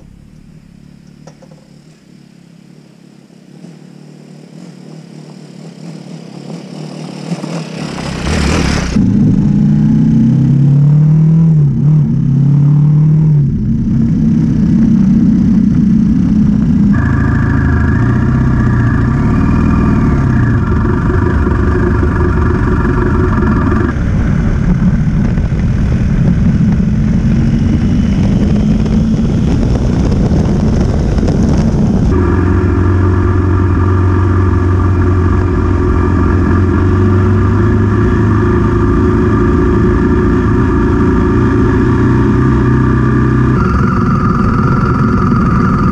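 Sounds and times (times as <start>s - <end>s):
motorcycle engine running: 0.0s - 45.9s
wind: 0.0s - 45.9s.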